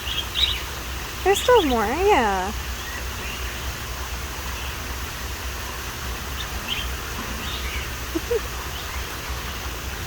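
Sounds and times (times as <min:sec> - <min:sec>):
low rumble and hiss: 0:00.0 - 0:10.0.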